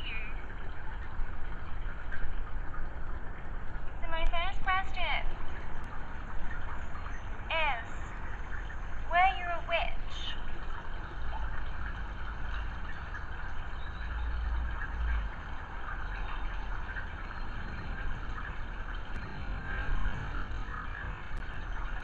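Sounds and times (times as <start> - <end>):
low rumble: 0.0 - 22.0
water trickling: 0.0 - 22.0.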